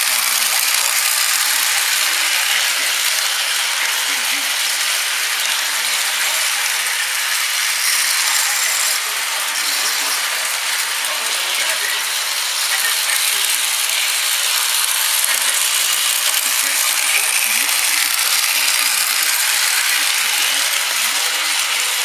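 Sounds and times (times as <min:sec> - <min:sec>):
toy train whirring and rattling: 0:00.0 - 0:22.0.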